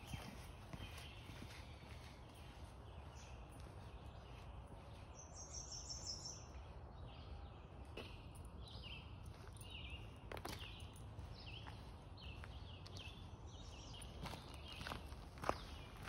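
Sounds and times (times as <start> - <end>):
birds singing: 0.0 - 16.0
footsteps on a dirt trail: 0.0 - 16.0.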